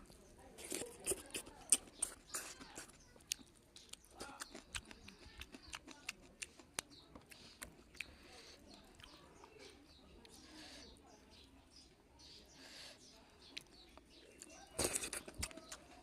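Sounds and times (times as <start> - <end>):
person chewing food: 0.0 - 10.4, 13.4 - 16.0.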